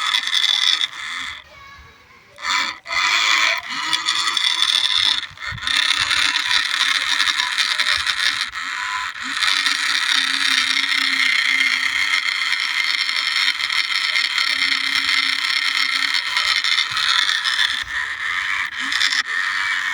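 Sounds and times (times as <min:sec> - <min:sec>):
toy tractor motor whining: 0:00.0 - 0:19.9.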